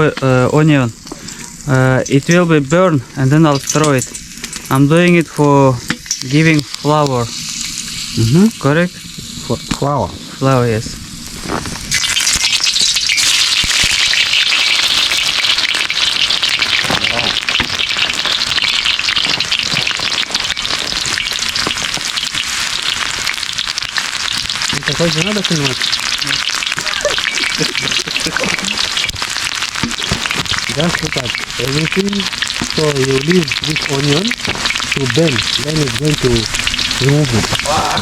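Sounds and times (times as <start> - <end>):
onion sizzling in hot oil: 0.0 - 38.0.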